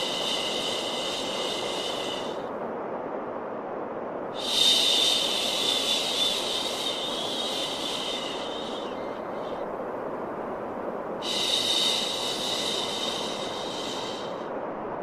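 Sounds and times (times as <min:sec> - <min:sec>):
white noise whooshing: 0:00.0 - 0:15.0.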